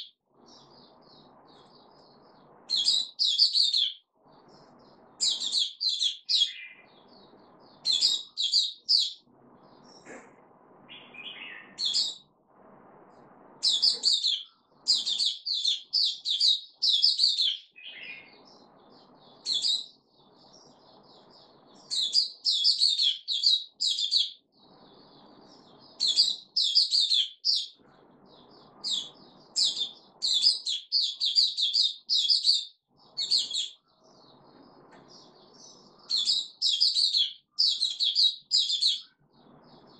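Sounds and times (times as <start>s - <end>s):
bird singing whistled notes: 0.0s - 9.2s, 10.9s - 12.3s, 13.6s - 33.8s, 35.1s - 39.9s.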